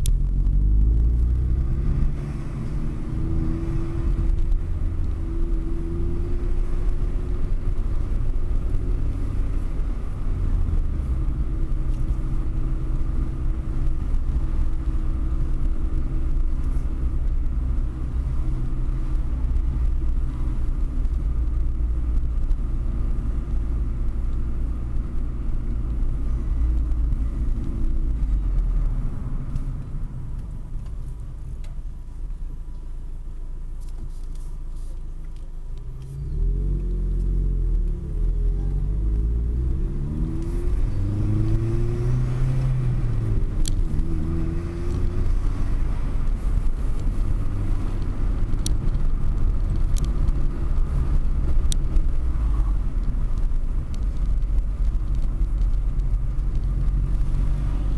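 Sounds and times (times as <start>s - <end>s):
car engine and road rumble: 0.0s - 57.9s.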